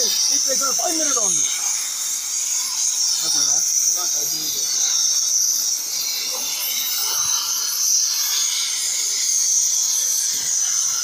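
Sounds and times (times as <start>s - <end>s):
gas cutting torch hissing: 0.0s - 11.0s.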